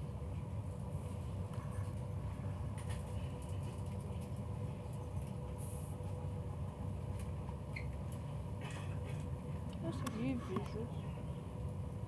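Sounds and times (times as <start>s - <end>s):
train coach rumble and hum: 0.0s - 12.0s.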